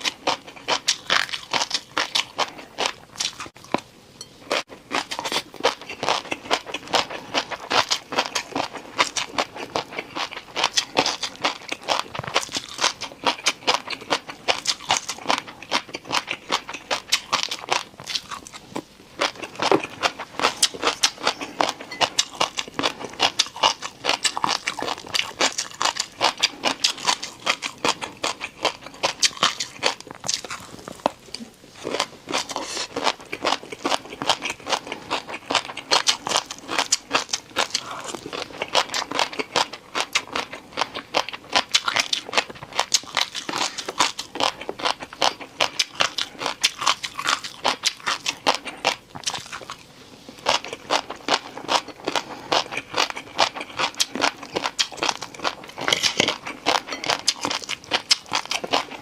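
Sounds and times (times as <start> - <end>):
person chewing crisp food: 0.0 - 59.0.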